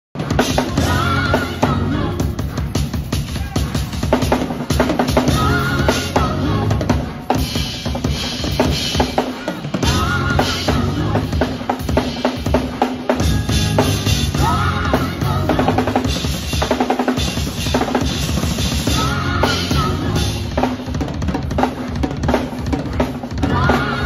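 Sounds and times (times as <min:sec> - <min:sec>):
drum kit groove: 0:00.2 - 0:24.0.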